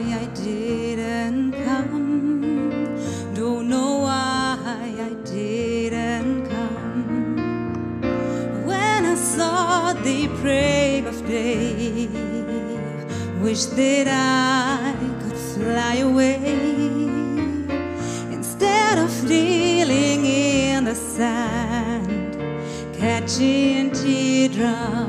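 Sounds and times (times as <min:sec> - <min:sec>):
woman singing: 0:00.0 - 0:07.6, 0:08.3 - 0:25.0
piano accompaniment: 0:00.0 - 0:25.0.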